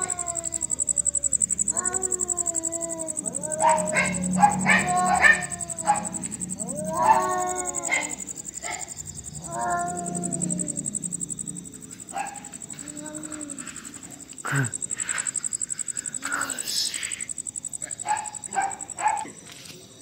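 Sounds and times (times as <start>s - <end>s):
cats screeching: 0.0s - 11.5s, 12.1s - 19.3s
cats yowling: 0.0s - 19.3s.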